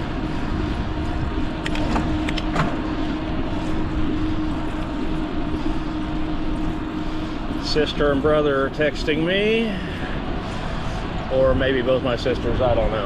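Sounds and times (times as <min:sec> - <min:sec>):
car running with steady hum: 0:00.0 - 0:13.0
wind rumble on microphone: 0:00.0 - 0:13.0.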